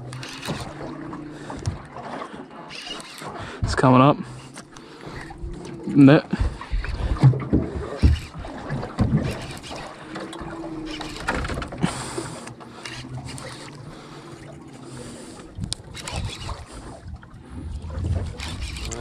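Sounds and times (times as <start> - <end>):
knocks and clatter on boat: 0.0 - 19.0
water splashing: 0.0 - 19.0.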